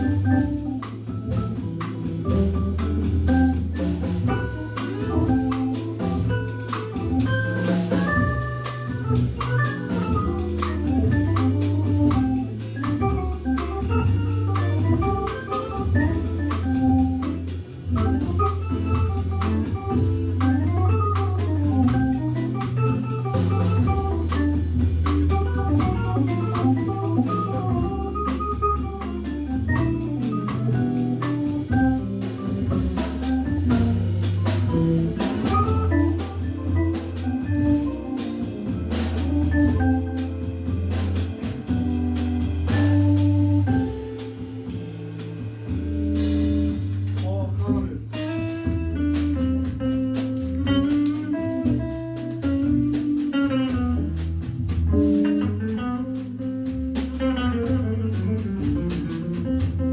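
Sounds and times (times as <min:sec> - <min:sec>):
drums and cymbal strikes: 0:00.0 - 0:59.9
low bass notes: 0:00.0 - 0:59.9
organ playing jazz: 0:00.0 - 0:59.9.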